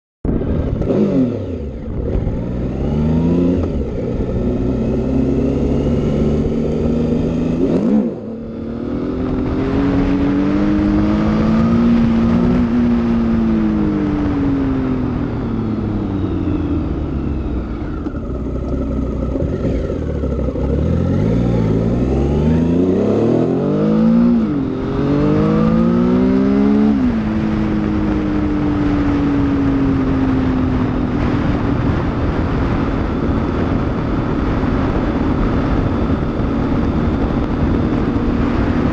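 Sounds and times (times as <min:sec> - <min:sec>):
motorcycle engine revving through gears: 0:00.2 - 0:38.9.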